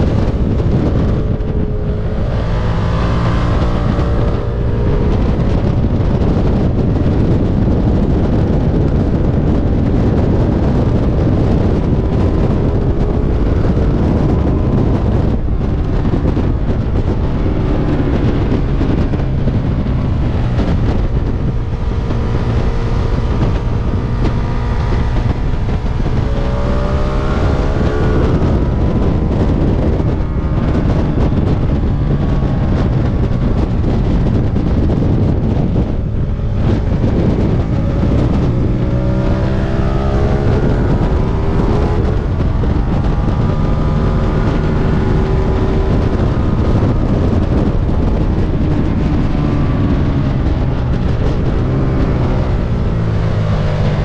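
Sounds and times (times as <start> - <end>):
motorcycle engine accelerating: 0.0 - 54.0
wind rushing on microphone: 0.0 - 54.0.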